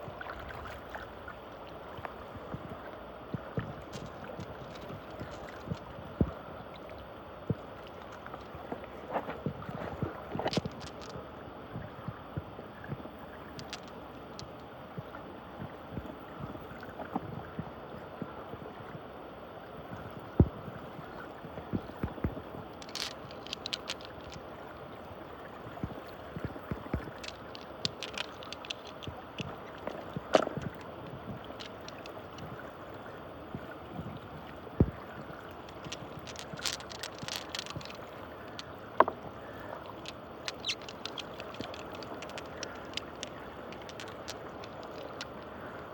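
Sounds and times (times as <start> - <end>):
water swirling and gurgling: 0.0 - 45.9.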